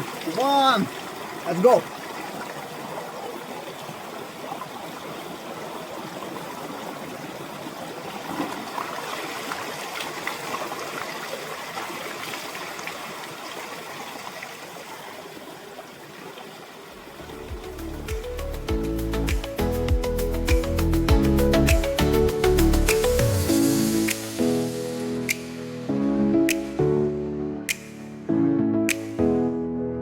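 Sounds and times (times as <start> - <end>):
stream running and splashing: 0.0 - 28.2.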